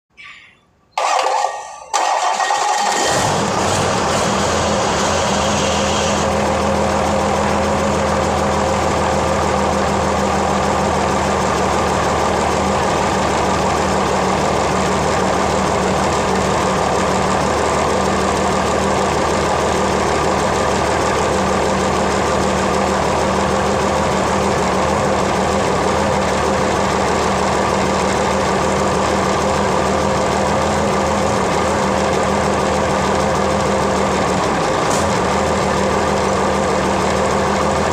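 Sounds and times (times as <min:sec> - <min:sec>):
car engine idling: 0:02.1 - 0:37.9.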